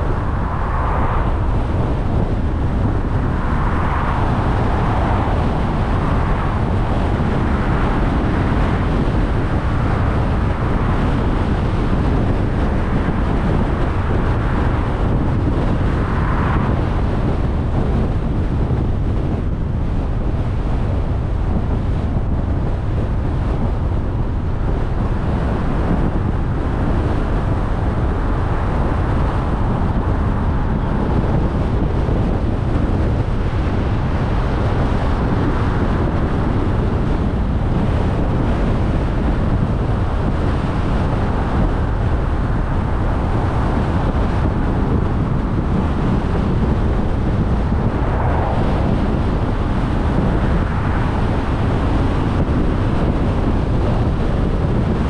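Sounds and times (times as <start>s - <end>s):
road and tyre noise: 0.0s - 55.0s
wind buffeting microphone: 0.0s - 55.0s.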